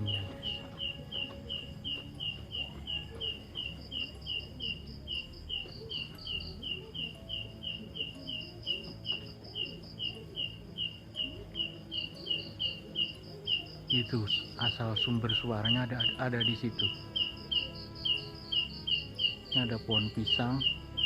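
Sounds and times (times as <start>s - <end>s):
night animal calling: 0.0s - 21.0s.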